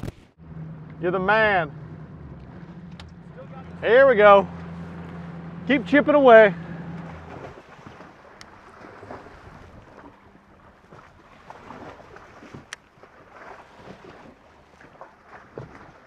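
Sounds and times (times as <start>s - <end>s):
waves lapping against boat hull: 2.2s - 16.0s.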